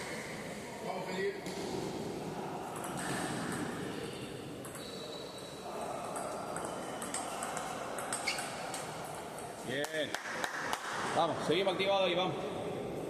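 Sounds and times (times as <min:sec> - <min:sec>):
large hall background noise: 0:00.0 - 0:13.0.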